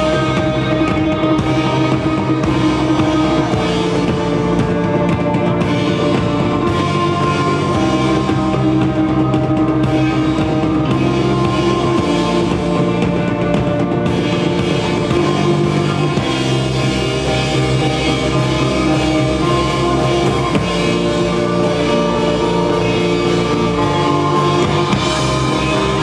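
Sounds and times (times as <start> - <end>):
droning guitar chords: 0.0 - 26.0
drum kit beating: 0.0 - 26.0.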